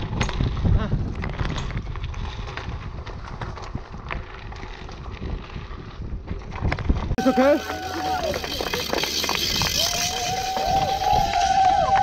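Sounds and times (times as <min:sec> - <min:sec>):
bicycle clicks and rattles: 0:00.0 - 0:12.0
wind on microphone: 0:00.0 - 0:12.0.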